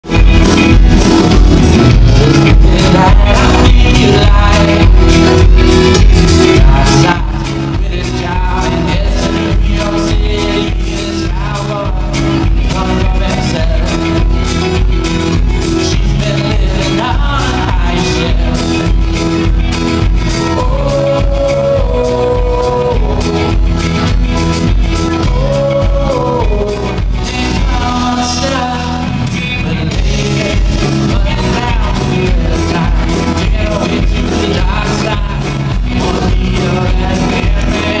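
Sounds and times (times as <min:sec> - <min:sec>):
acoustic guitar strumming: 0:00.0 - 0:38.0
drum kit beat: 0:00.0 - 0:38.0
electric guitar: 0:00.0 - 0:38.0
keyboard: 0:00.0 - 0:38.0
man singing lead: 0:00.0 - 0:38.0.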